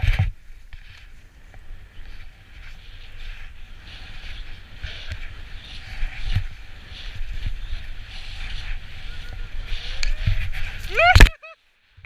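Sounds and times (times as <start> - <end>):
skis hissing through snow: 0.0 - 11.2
wind rumble on microphone: 0.0 - 11.3.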